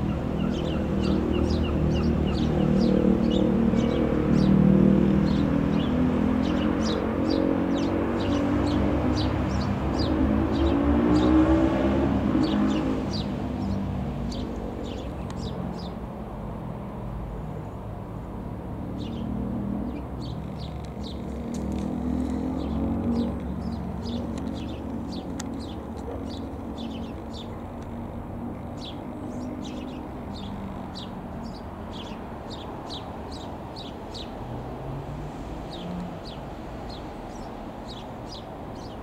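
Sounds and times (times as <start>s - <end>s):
propeller aircraft droning overhead: 0.0s - 39.0s
small birds chirping: 0.0s - 39.0s.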